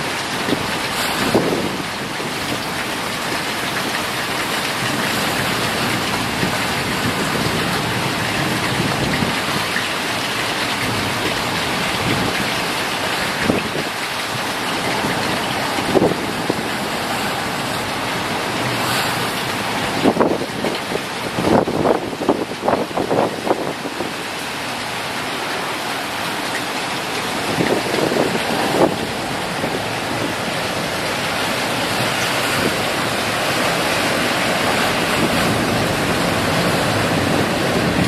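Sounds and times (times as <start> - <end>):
heavy driving rain: 0.0 - 38.0
wind: 0.0 - 38.0
wind buffeting microphone: 0.0 - 38.0.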